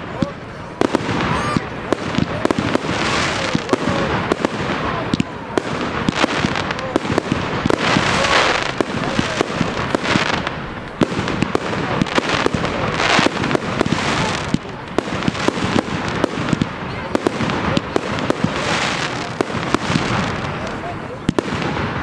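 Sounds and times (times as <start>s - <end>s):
hissing crackle: 0.0s - 22.0s.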